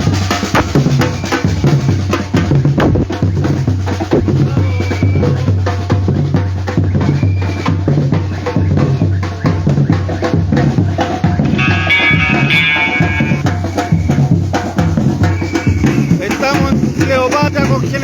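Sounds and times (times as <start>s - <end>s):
deep bass-drum beats: 0.0s - 18.0s
drum ensemble playing: 0.0s - 18.0s
snare and hand-percussion strokes: 0.0s - 18.0s.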